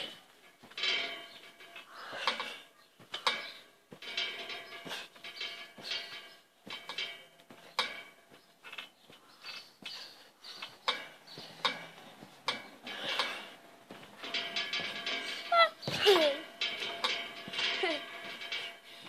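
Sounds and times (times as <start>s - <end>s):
landing thuds: 0.0s - 19.0s
trampoline springs squeaking: 0.0s - 19.0s.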